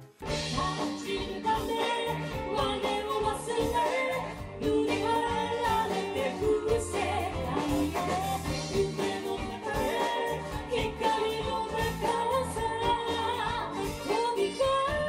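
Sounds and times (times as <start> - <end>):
rock band playing: 0.0 - 15.0
woman singing: 0.3 - 15.0.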